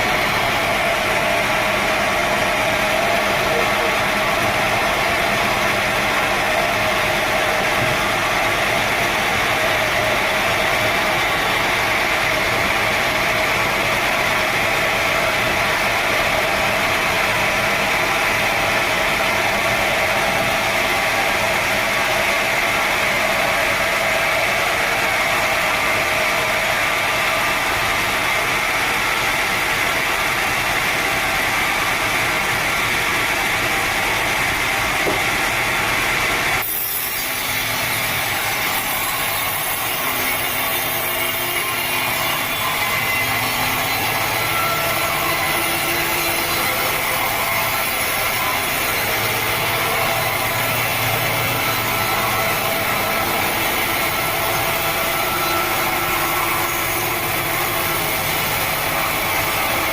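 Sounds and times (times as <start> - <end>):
sawmill saw running: 0.0 - 59.9.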